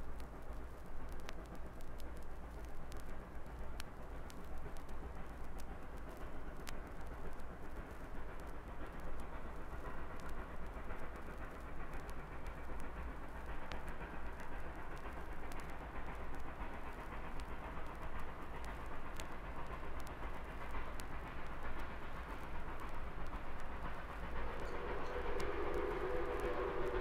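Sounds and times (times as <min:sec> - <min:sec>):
train rumble with rail clatter: 0:00.0 - 0:27.0.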